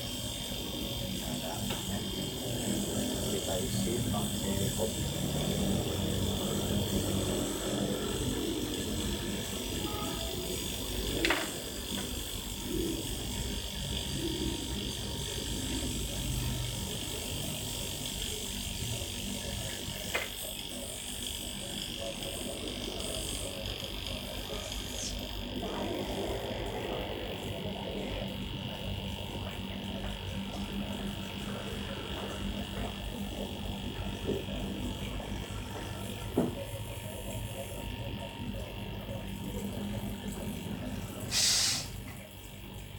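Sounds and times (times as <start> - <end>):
compressor humming: 0.0 - 42.9.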